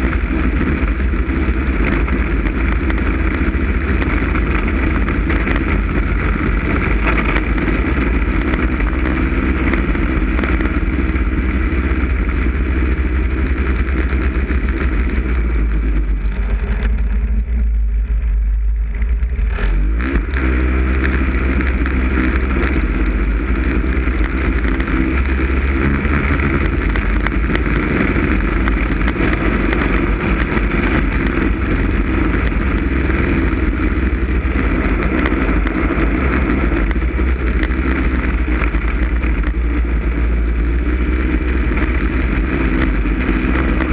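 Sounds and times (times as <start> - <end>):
snowmobile engine revving: 0.0 - 17.6, 19.3 - 43.9.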